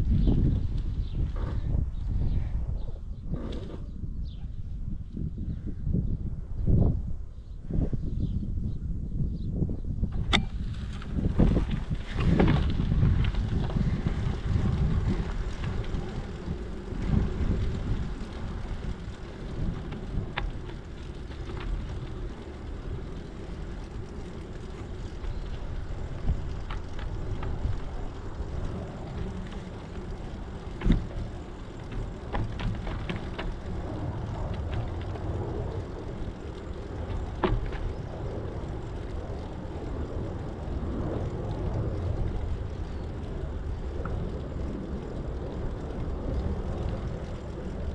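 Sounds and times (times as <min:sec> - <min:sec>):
bicycle tyres rolling on trail: 0:00.0 - 0:47.9
wind buffeting microphone: 0:00.0 - 0:47.9.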